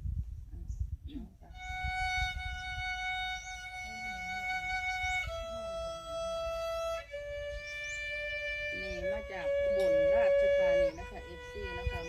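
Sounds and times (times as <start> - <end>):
violin long held notes: 1.6 - 12.0.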